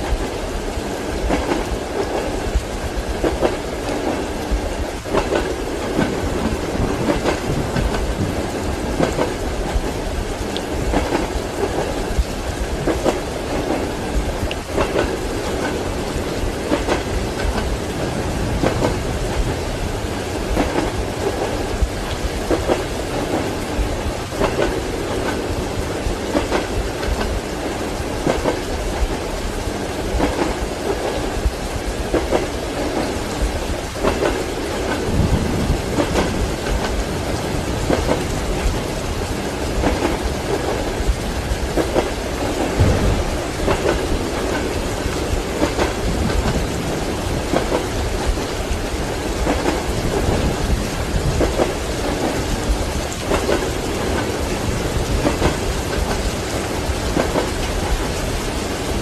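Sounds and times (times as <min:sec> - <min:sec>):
low rolls of thunder: 0:00.0 - 0:59.0
steady rain: 0:00.0 - 0:59.0
train wheels clickety-clacking: 0:00.0 - 0:59.0.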